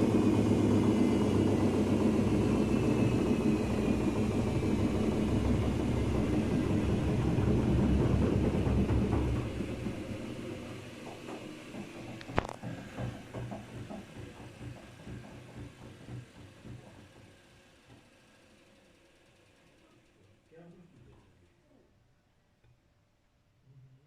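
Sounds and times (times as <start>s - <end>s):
washing machine spinning: 0.0s - 20.4s.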